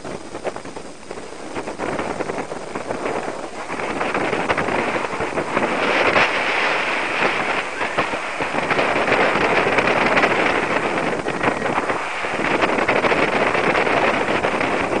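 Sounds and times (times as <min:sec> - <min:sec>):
crackles: 0:00.0 - 0:15.0
wind buffeting microphone: 0:00.0 - 0:15.0.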